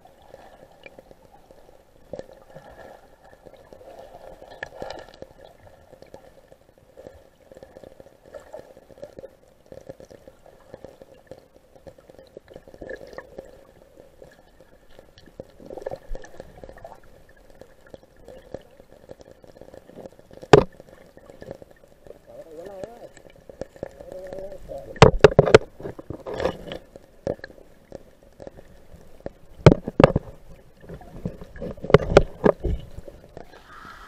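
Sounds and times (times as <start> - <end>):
muffled underwater river gurgling: 0.0 - 34.0
small underwater clicks: 0.1 - 34.0.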